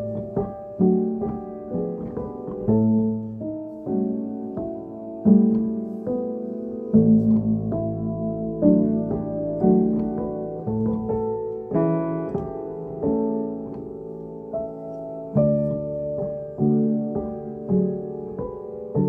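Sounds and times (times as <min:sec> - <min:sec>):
piano chords and notes: 0:00.0 - 0:19.0.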